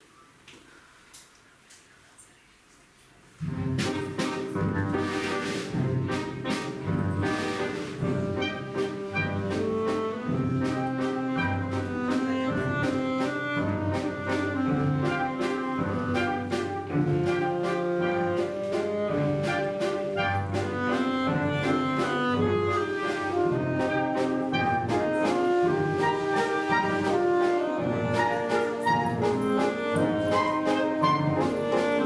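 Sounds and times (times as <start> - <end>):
orchestra playing a waltz: 3.4 - 32.0.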